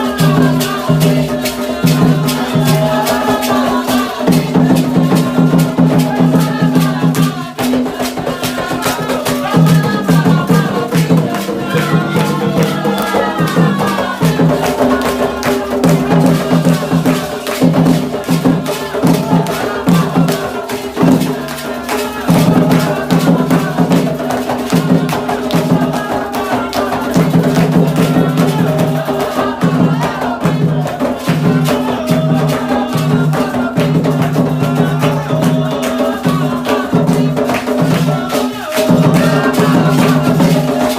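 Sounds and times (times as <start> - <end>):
chanted singing: 0.0 - 40.9
hand drums: 0.0 - 40.9.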